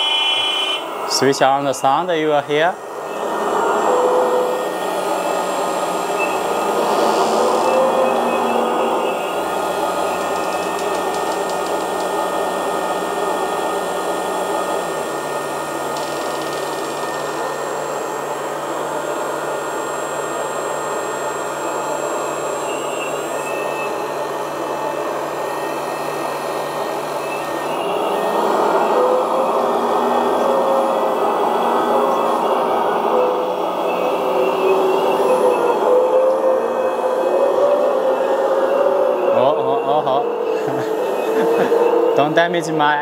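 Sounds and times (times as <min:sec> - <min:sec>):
electric hydraulic pump humming: 0:00.0 - 0:43.0
simulated diesel engine: 0:00.0 - 0:43.0.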